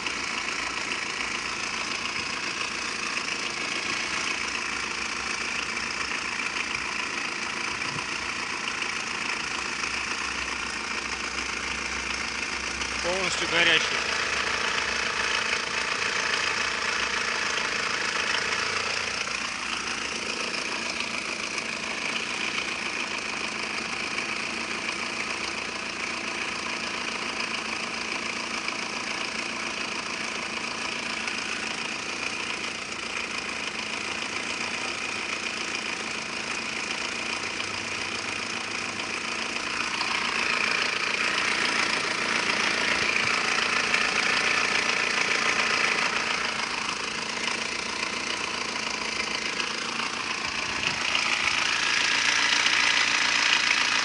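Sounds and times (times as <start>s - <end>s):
petrol engine idling: 0.0s - 54.0s.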